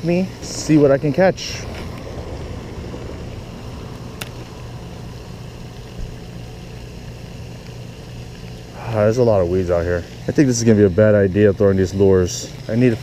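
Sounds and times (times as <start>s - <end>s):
low outdoor hum: 0.0s - 13.0s.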